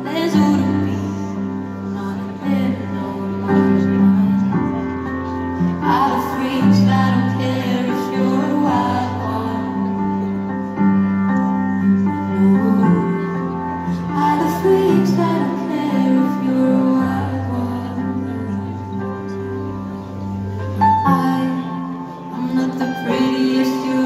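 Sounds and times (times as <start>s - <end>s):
woman singing: 0.0s - 10.4s, 12.2s - 19.0s, 21.0s - 24.0s
sustained keyboard chords: 0.0s - 24.0s.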